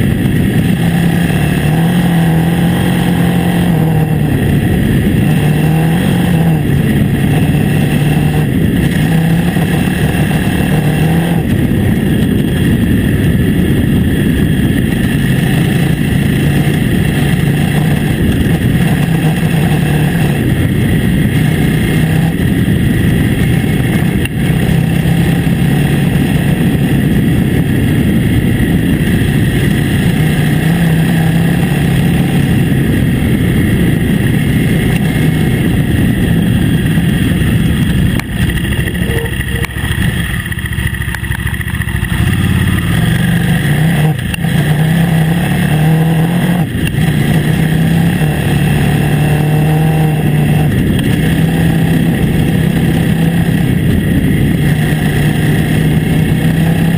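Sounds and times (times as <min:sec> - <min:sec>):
motorcycle engine running: 0:00.0 - 0:56.9
road noise: 0:00.0 - 0:56.9.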